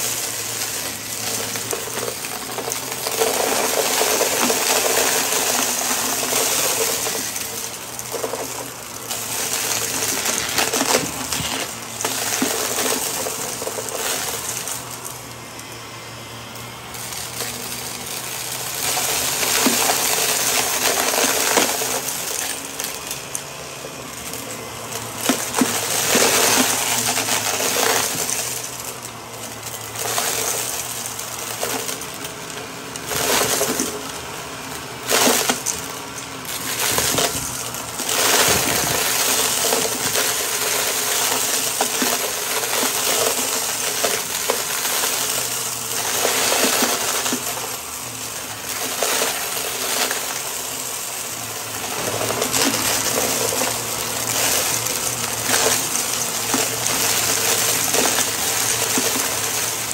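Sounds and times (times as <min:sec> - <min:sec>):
debris crunching through vacuum nozzle: 0:00.0 - 0:59.9
vacuum cleaner motor: 0:00.0 - 0:59.9.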